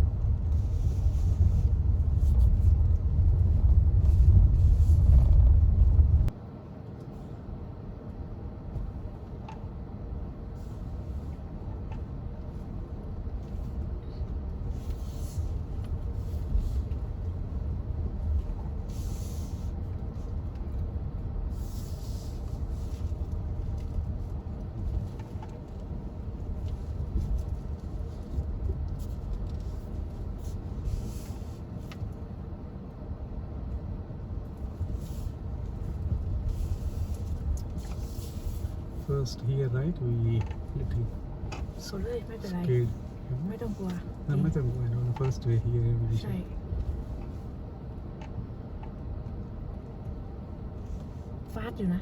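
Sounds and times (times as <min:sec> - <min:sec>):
vehicle rumbling over rough ground: 0:00.0 - 0:52.0.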